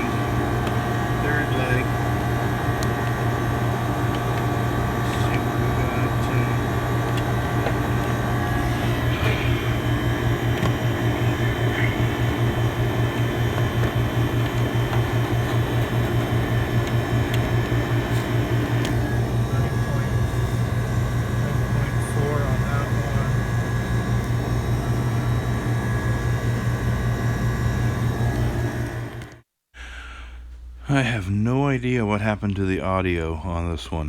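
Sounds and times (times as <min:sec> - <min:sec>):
refrigeration unit humming: 0:00.0 - 0:34.0.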